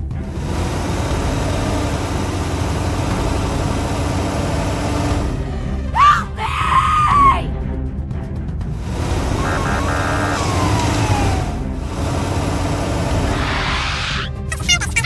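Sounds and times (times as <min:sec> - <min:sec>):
heavy vehicle engine rumble: 0:00.0 - 0:06.0, 0:07.7 - 0:15.0.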